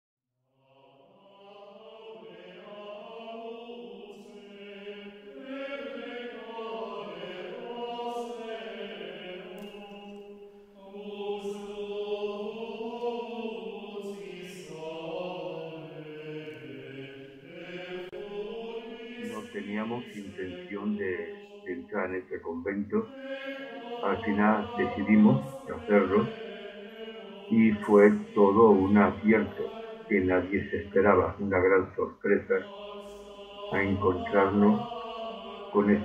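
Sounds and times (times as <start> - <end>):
slow vocal chant: 0.5 - 36.0.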